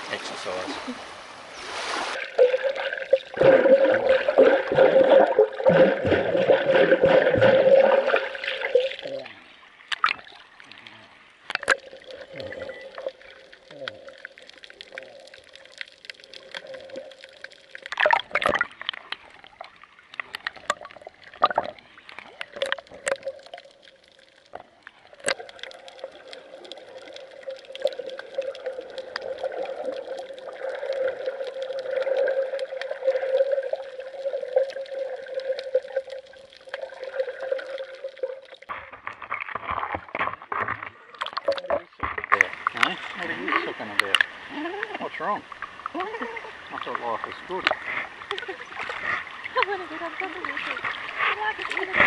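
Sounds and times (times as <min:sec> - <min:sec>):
splashes of swimming: 0:00.0 - 0:52.0
muffled underwater sloshing: 0:00.3 - 0:52.0.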